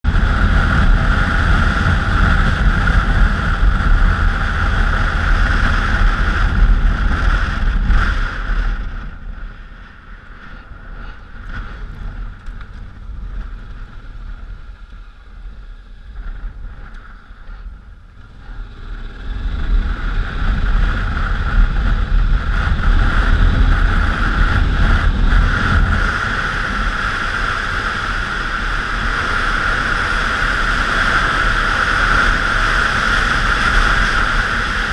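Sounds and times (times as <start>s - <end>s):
motorcycle engine running: 0.0s - 34.9s
wind noise on microphone: 0.0s - 34.9s.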